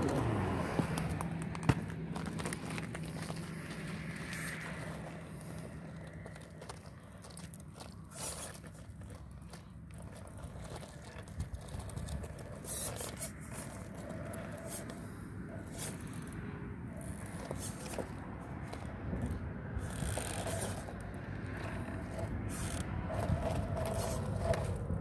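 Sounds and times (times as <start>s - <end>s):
faint motor hum: 0.0s - 25.0s
tyres crunching on gravel: 0.0s - 25.0s.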